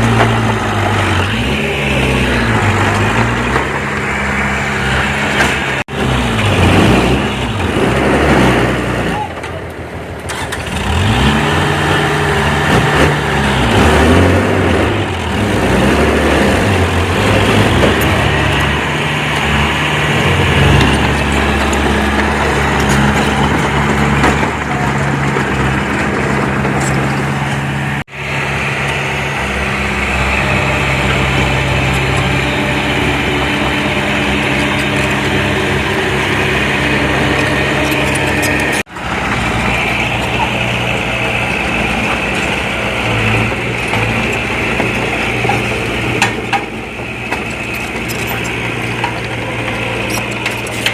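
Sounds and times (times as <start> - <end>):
heavy diesel engine under load: 0.0 - 50.9.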